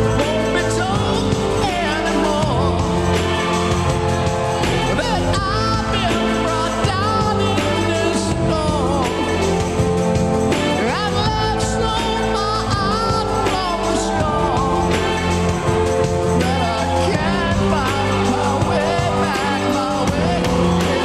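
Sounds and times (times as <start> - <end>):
man singing: 0.0 - 21.0
rock band playing live: 0.0 - 21.0.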